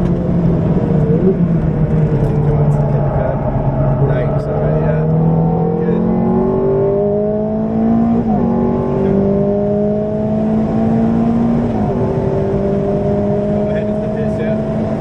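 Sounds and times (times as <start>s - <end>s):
car engine accelerating with upshifts: 0.0s - 15.0s.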